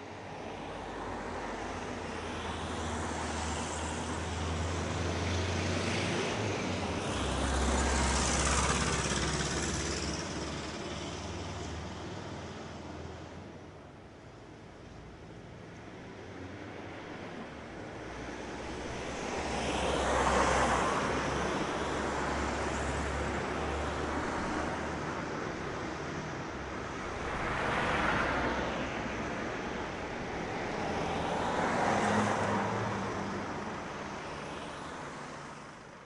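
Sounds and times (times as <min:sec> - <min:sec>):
traffic hum: 0:00.0 - 0:36.0
vehicles passing: 0:00.0 - 0:36.0.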